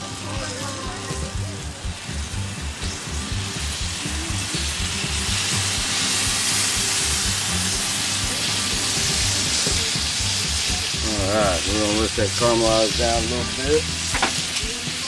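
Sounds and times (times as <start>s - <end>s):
sauce sizzling on a hot grill: 0.0s - 15.0s.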